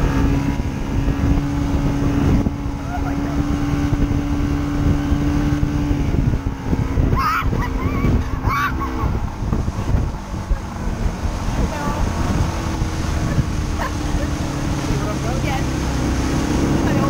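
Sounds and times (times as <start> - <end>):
outboard motor running: 0.0 - 17.0
rushing wake water: 0.0 - 17.0
wind buffeting microphone: 0.0 - 17.0.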